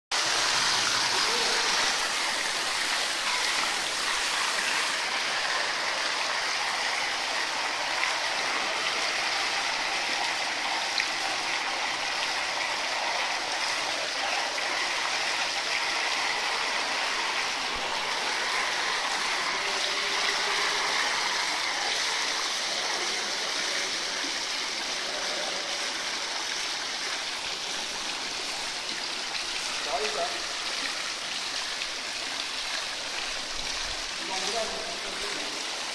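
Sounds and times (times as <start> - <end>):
waterfall splashing into pool: 0.1 - 35.9.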